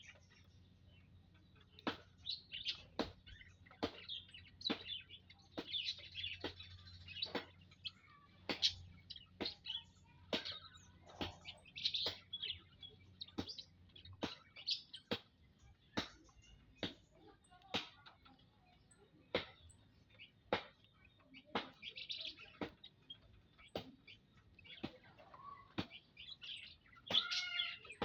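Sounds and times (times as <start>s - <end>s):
birds chirping sharp calls: 0.0s - 28.0s
soft bird twittering: 0.0s - 28.0s.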